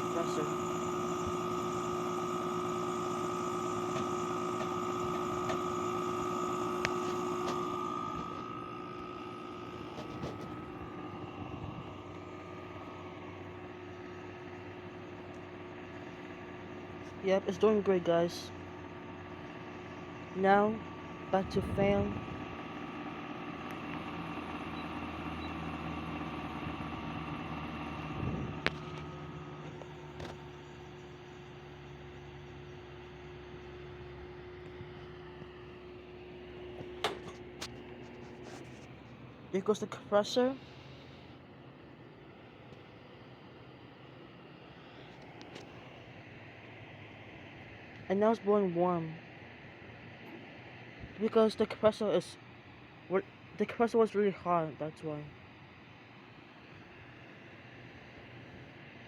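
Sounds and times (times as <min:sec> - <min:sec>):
air conditioner running: 0:00.0 - 0:59.0.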